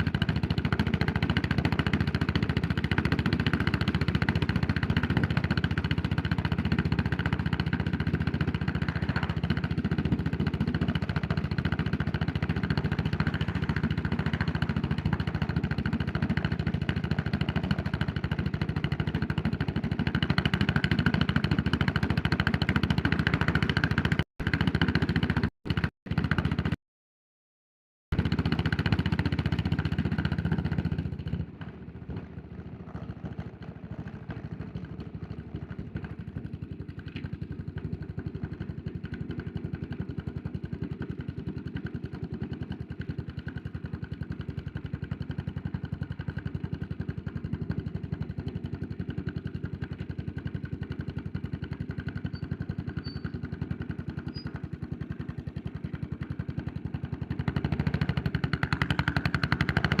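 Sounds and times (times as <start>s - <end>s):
motorcycle engine revving: 0.0s - 26.8s, 28.2s - 60.0s.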